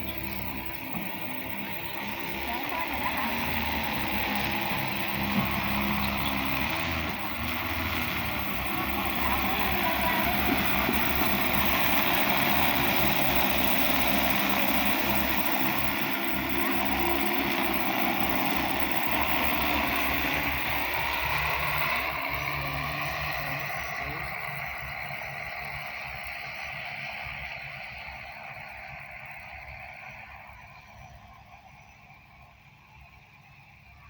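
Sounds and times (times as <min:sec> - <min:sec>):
drone rotors droning: 0:00.0 - 0:34.0.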